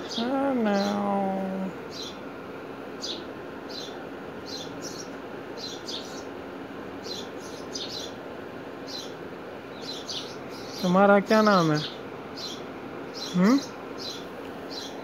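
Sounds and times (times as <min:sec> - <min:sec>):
small birds chirping: 0:00.0 - 0:15.0
steady background noise: 0:00.0 - 0:15.0.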